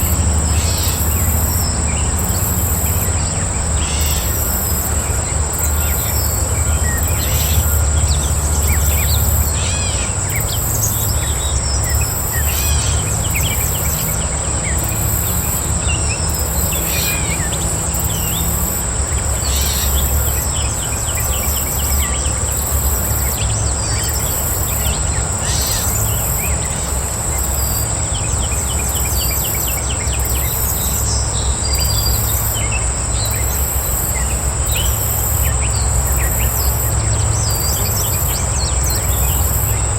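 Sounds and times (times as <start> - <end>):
birds calling: 0.0 - 39.9
insects trilling: 0.0 - 39.9
pulsing insect chirping: 0.0 - 39.9.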